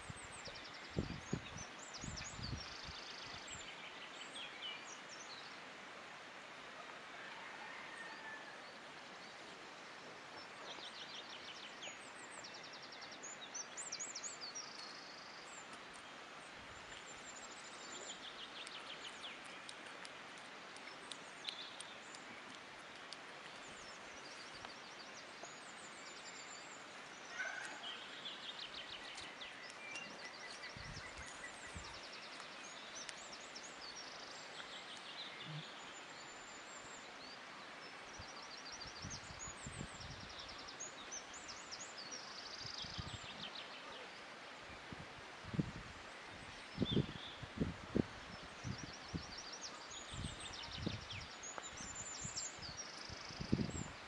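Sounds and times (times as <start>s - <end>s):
small birds chirping: 9.1s - 45.0s, 45.6s - 54.0s.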